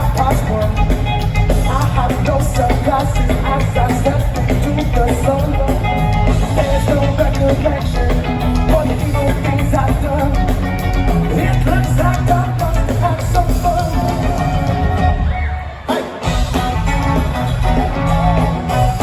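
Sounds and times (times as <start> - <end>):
rock music with lead singer: 0.0 - 19.0.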